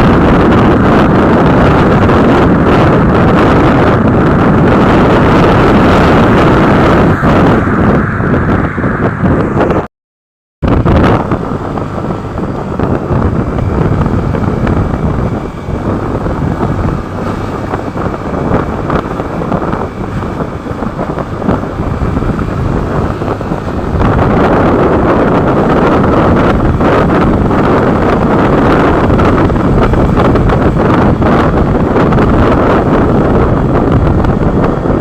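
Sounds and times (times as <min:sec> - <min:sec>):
motorcycle engine rumble: 0:00.0 - 0:09.9, 0:10.6 - 0:35.0
road noise: 0:00.0 - 0:09.9, 0:10.6 - 0:35.0
wind buffeting microphone: 0:00.0 - 0:09.9, 0:10.6 - 0:35.0.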